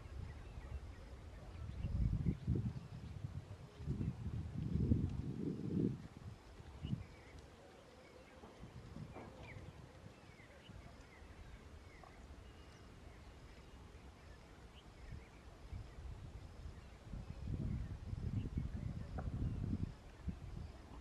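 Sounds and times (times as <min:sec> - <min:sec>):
faint bird chirps: 0:00.0 - 0:03.0, 0:06.8 - 0:21.0.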